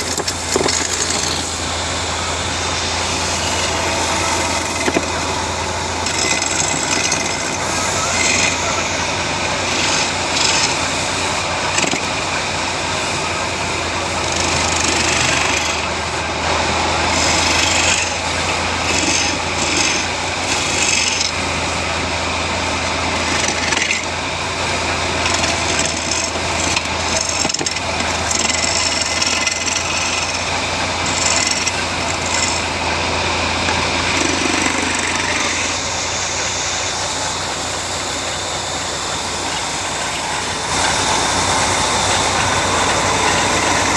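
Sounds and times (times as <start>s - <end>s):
hiss of cutting wood: 0.0s - 43.9s
woodworking machine humming: 0.0s - 43.9s.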